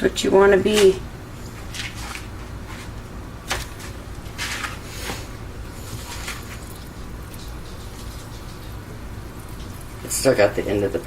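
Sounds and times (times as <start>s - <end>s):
room fan humming: 0.0s - 11.0s.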